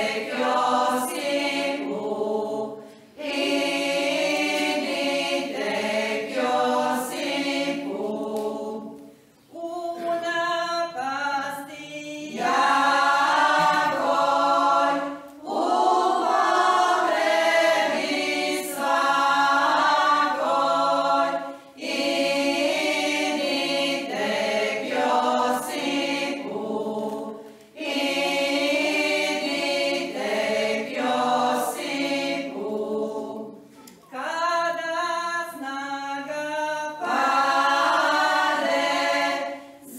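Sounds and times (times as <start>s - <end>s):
women's choir singing a hymn: 0.0s - 39.9s.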